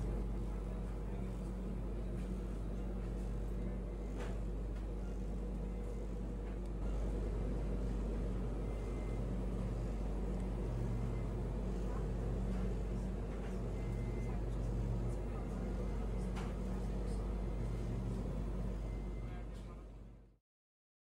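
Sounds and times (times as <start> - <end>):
refrigerator cases humming: 0.0 - 19.5.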